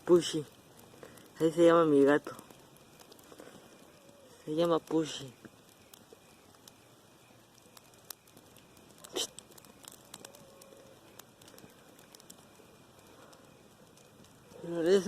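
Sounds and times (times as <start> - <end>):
twig campfire crackling: 0.0 - 15.0.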